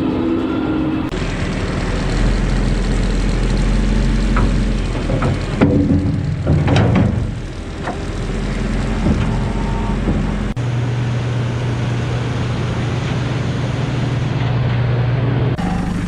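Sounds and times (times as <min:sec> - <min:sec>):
farm machinery engine running: 0:00.9 - 0:16.0.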